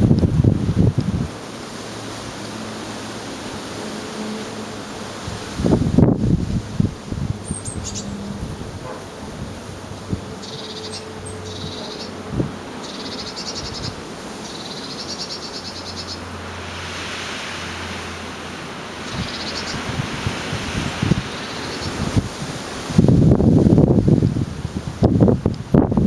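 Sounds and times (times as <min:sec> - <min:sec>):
storm wind blowing: 0:00.0 - 0:14.7, 0:15.7 - 0:26.0.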